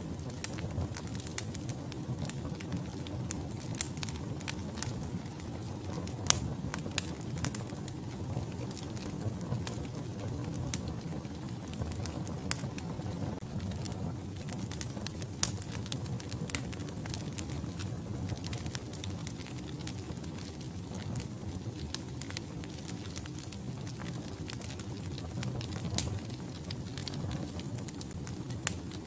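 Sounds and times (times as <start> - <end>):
logs crackling and popping: 0.0 - 29.0
low rumble of flame: 0.0 - 29.0.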